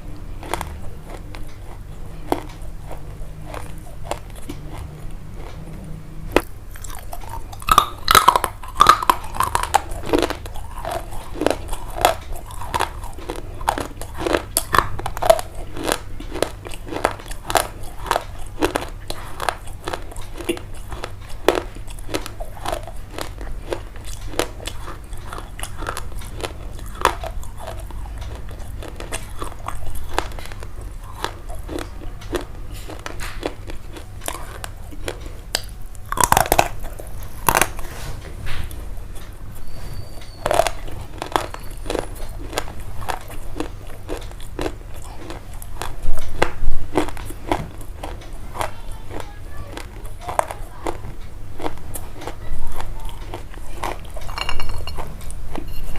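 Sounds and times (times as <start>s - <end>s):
crunchy chewing: 0.0s - 55.9s.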